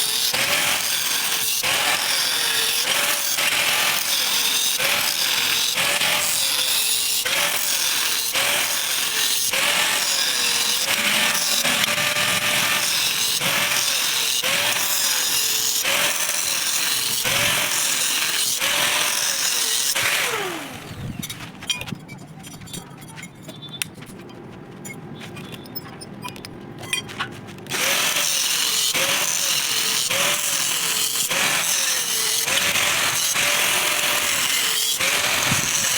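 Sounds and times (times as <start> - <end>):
angle grinder working metal: 0.0 - 22.8, 27.7 - 35.9.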